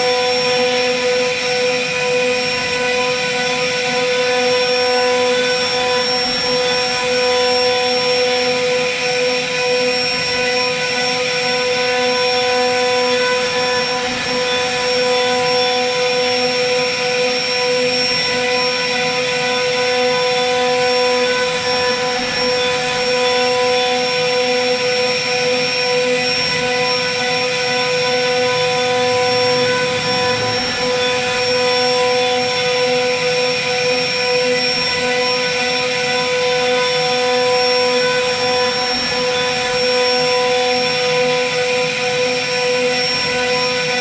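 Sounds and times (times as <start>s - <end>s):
router spindle whine: 0.0s - 44.0s.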